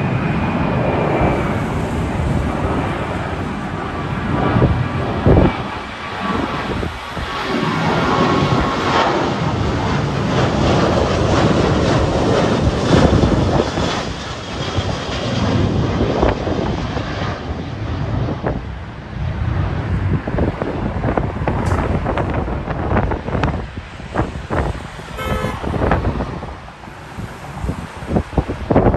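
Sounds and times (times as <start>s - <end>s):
jet engines passing: 0.0s - 28.9s
wind buffeting microphone: 0.0s - 28.9s.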